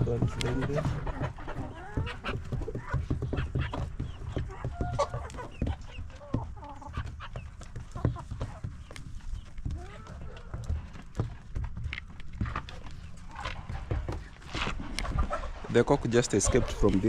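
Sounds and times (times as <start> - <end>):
birds tapping and scratching: 0.0 - 17.0
chickens clucking: 0.0 - 17.0.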